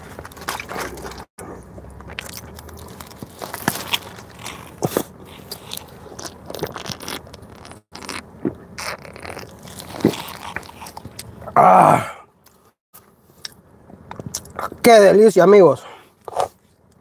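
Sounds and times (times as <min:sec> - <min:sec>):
chewing bread: 0:00.0 - 0:11.6, 0:13.4 - 0:14.8, 0:16.2 - 0:17.0.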